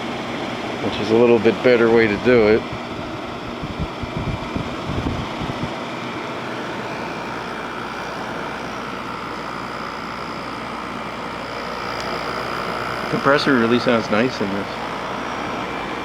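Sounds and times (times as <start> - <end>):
faint high whine: 0.0 - 16.0
window air conditioner running: 0.0 - 16.0.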